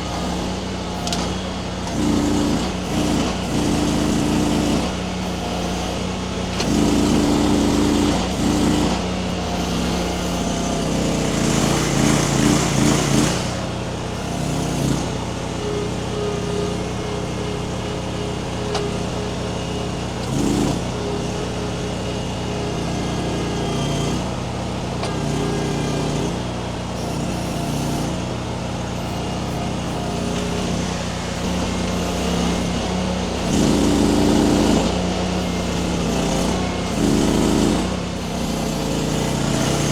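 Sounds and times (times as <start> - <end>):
skid steer engine under load: 0.0 - 39.9.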